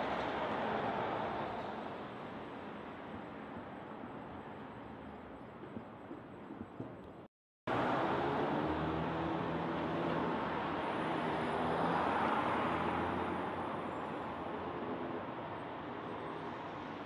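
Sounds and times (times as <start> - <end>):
road traffic: 0.0 - 5.5, 7.7 - 17.0.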